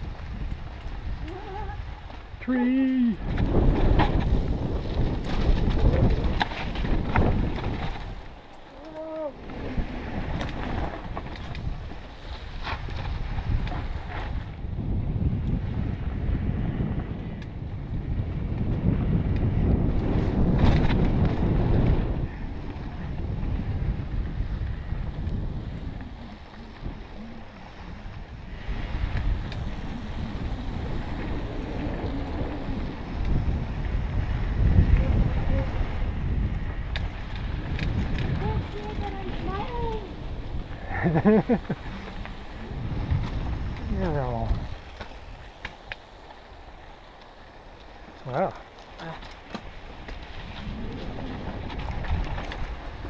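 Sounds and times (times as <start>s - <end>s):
mountain bike rattling on dirt: 0.0s - 2.6s, 3.2s - 53.0s
wind buffeting microphone: 0.0s - 53.0s.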